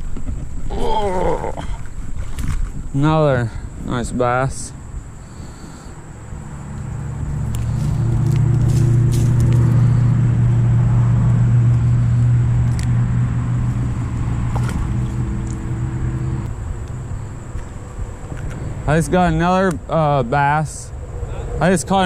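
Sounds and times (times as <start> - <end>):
engine droning: 3.0 - 22.0.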